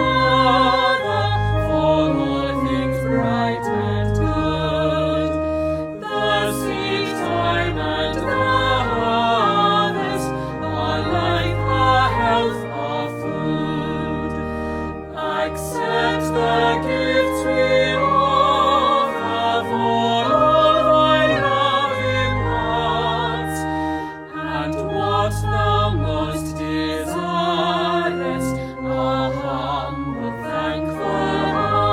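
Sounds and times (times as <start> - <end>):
choir singing: 0.0 - 31.9
sustained low accompanying notes: 0.0 - 31.9.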